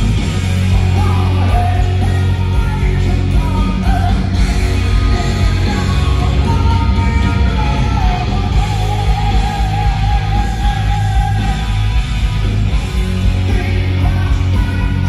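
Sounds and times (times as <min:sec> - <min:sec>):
heavy metal band playing: 0:00.0 - 0:15.0
male singer singing: 0:00.7 - 0:11.8, 0:13.4 - 0:15.0.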